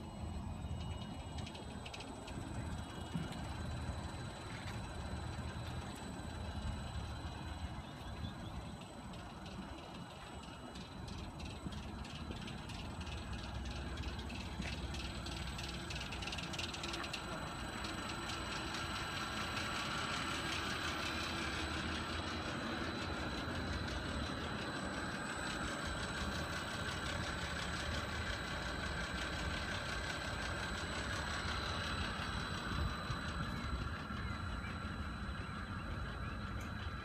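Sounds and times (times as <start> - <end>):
pump humming with high whine: 0.0 - 37.0.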